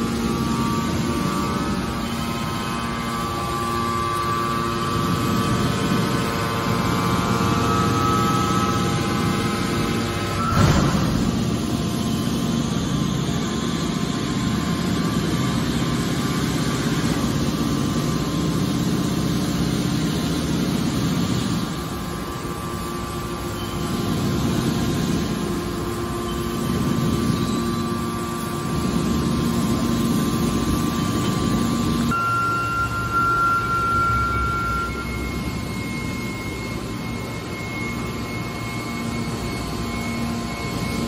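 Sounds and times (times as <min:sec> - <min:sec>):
hydraulic baler machine hum: 0:00.0 - 0:41.0.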